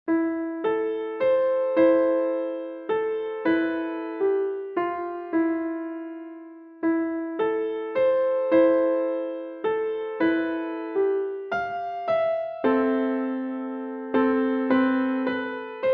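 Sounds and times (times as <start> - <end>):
slow solo piano tune: 0.1 - 15.9.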